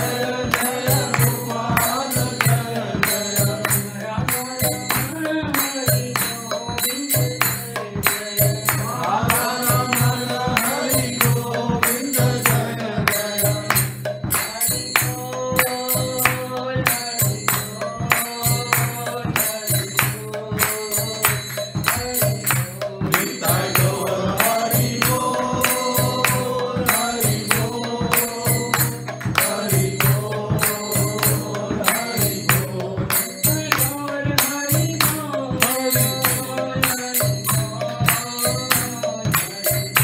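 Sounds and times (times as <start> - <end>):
hand cymbals struck: 0.0 - 40.0.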